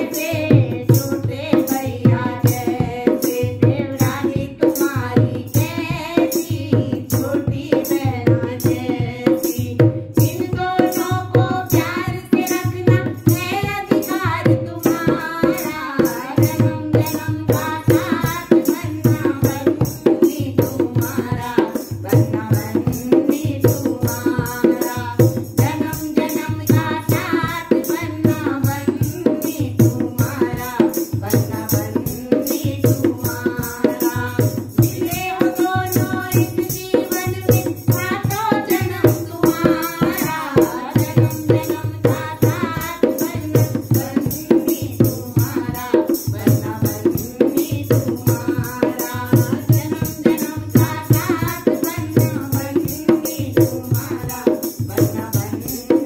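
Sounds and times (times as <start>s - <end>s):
dholak drum beat: 0.0s - 56.0s
women singing wedding song: 0.0s - 56.0s.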